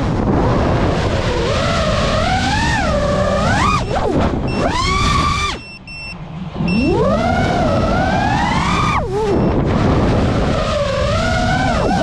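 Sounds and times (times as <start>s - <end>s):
quadcopter motors whining: 0.5s - 12.0s.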